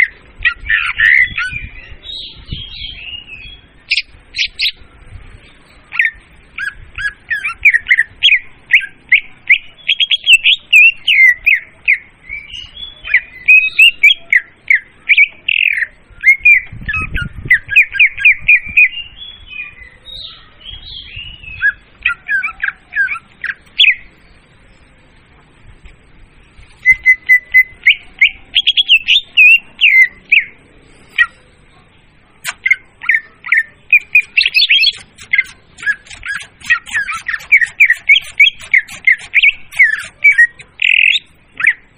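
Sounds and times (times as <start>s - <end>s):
bird chirping and trilling: 0.0s - 24.9s, 26.8s - 31.6s, 32.4s - 41.9s.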